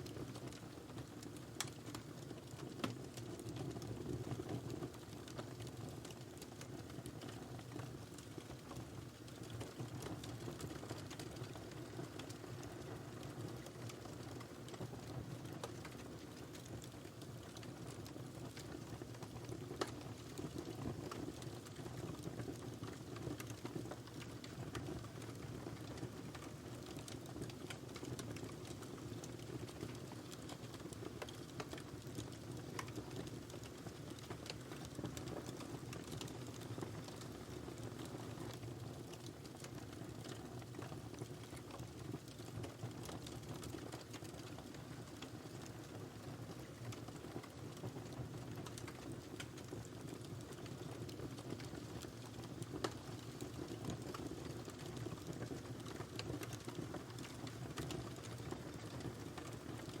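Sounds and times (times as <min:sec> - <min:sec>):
wood fire crackling and popping: 0:00.0 - 1:00.0.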